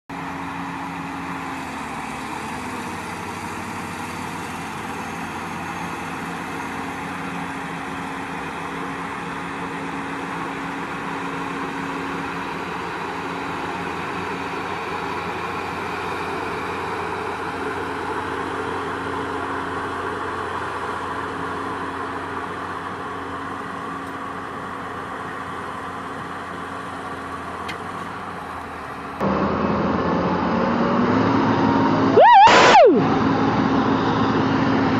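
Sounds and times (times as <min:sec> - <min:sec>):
diesel engines running: 0:00.1 - 0:34.9.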